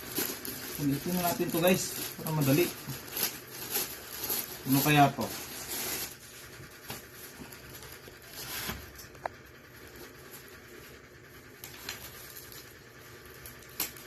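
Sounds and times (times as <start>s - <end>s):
plastic wrapping rustling: 0.0s - 14.0s.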